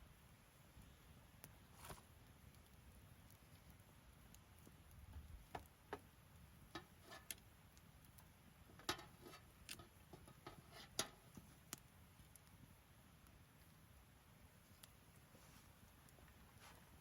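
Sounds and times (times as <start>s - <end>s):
campfire crackling and popping: 0.2s - 17.0s.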